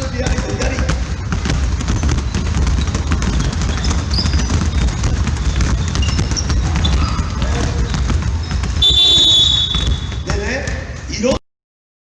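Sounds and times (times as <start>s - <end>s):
basketballs bouncing on gym floor: 0.0s - 11.4s.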